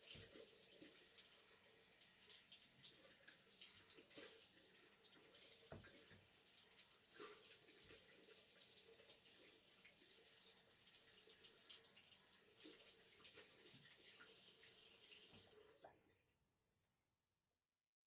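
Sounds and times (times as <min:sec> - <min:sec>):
drips and gurgles: 0:00.0 - 0:16.0
tap water running into sink: 0:00.0 - 0:16.0.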